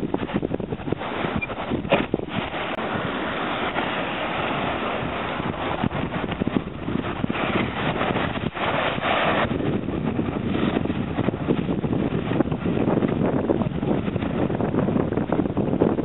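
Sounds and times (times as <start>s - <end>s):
water sloshing and splashing: 0.0s - 12.8s
rush of water: 0.0s - 16.0s
wind buffeting microphone: 0.0s - 16.0s.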